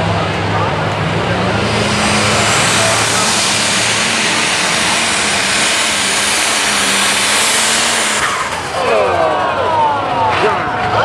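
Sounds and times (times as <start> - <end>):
tractor engine at full throttle: 0.0 - 11.0.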